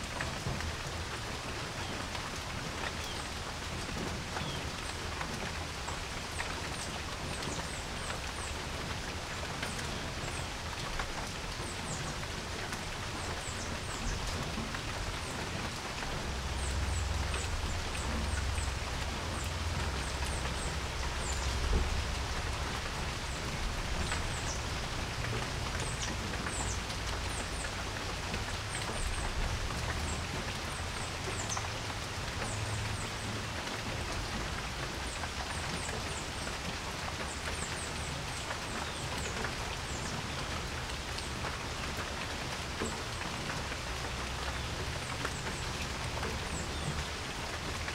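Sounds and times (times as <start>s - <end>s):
rain falling on a porch: 0.0s - 47.9s.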